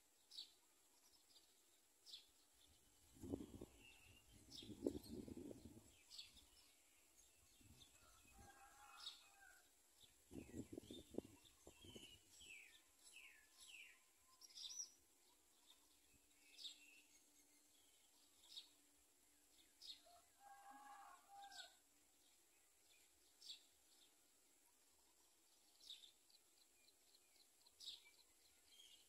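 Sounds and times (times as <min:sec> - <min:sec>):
small birds chirping: 0:00.2 - 0:09.4, 0:10.0 - 0:20.1, 0:22.3 - 0:29.0.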